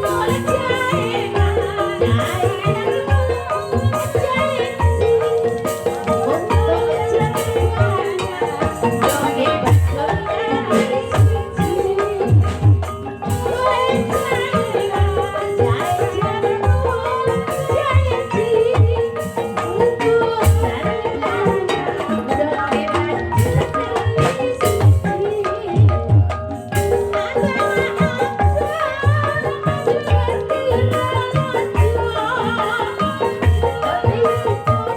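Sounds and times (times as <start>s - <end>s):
gamelan metallic tones: 0.0s - 34.9s
hand drum strokes: 0.0s - 34.9s.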